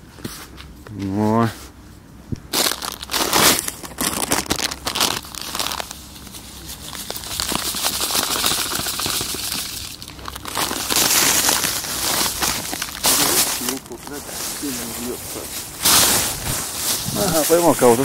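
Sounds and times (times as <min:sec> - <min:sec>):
plastic packaging crinkling: 0:02.5 - 0:18.0.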